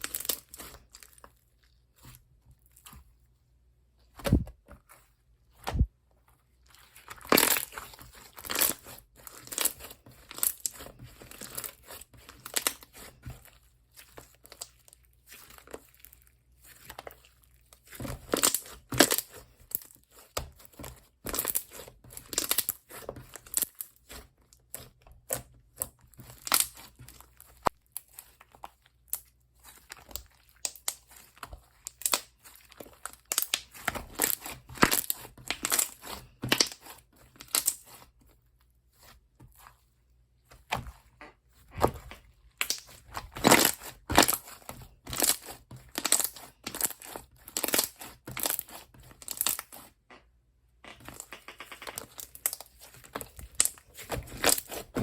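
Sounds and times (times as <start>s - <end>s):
slime squishing by hand: 0.0s - 55.0s.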